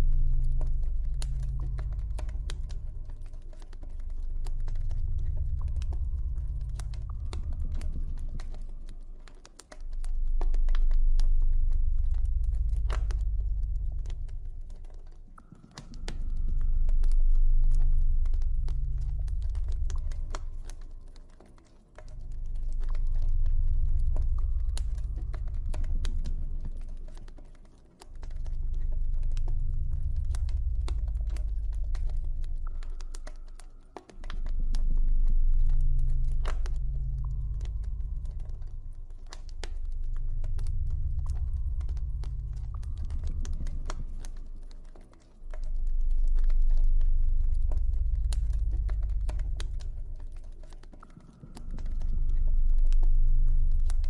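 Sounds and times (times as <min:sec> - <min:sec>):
low ambient drone: 0:00.0 - 0:54.0.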